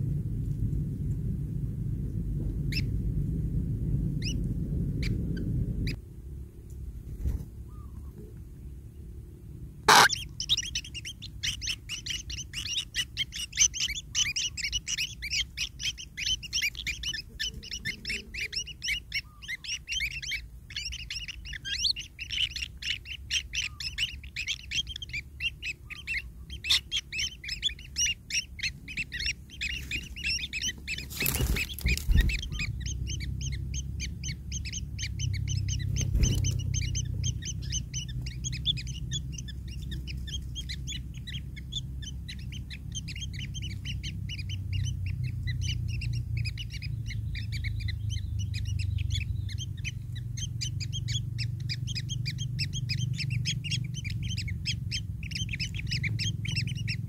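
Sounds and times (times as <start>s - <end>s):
low rumble: 0.0s - 19.1s, 19.9s - 57.0s
nestlings begging chirps: 2.6s - 3.0s, 4.1s - 6.0s, 9.8s - 57.0s.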